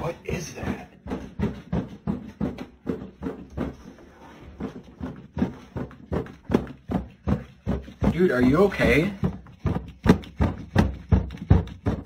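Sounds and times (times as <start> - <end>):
footsteps on a hard floor: 0.0 - 12.0.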